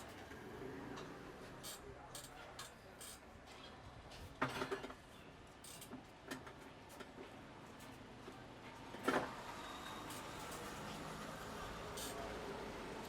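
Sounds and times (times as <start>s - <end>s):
faint roadside traffic: 0.0s - 13.0s.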